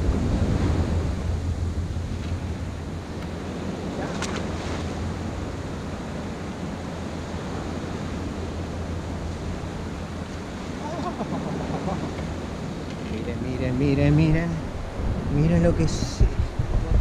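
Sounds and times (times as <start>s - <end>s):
surf washing against stone: 0.0s - 16.0s
wind buffeting microphone: 0.0s - 17.0s.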